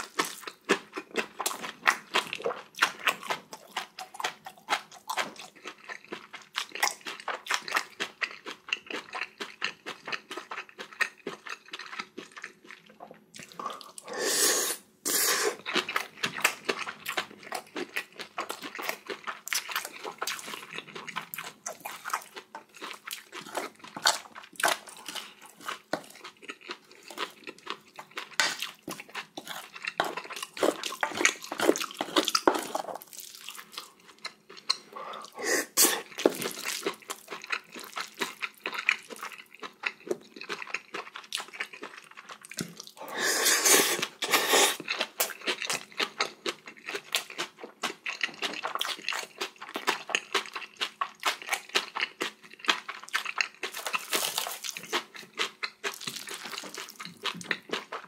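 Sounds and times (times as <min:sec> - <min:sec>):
crunchy wet chewing: 0:00.0 - 0:14.1, 0:15.1 - 0:58.0.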